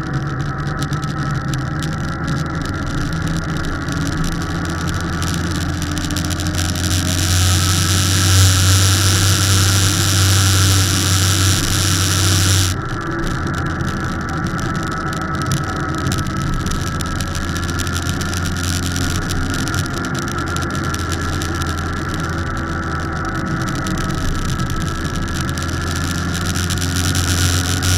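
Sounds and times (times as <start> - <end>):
motorcycle engine running: 0.0 - 12.8, 13.6 - 27.9.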